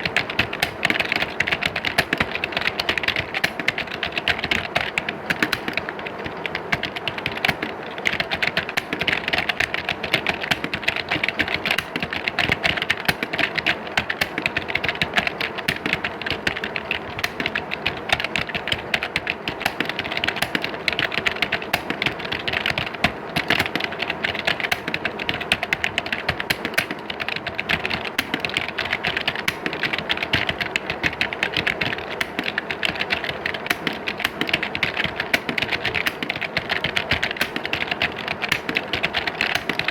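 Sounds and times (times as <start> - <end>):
rapid keyboard typing: 0.0 - 39.9.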